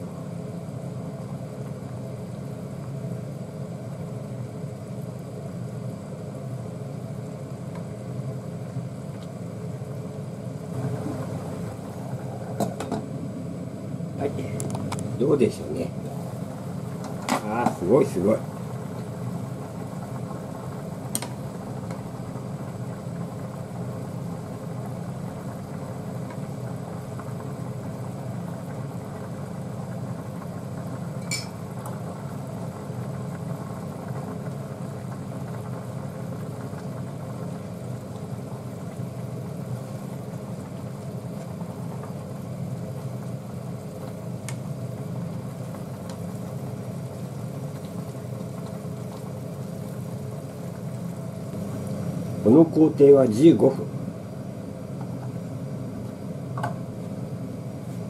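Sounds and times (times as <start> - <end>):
kitchen fan humming: 0.0 - 58.0.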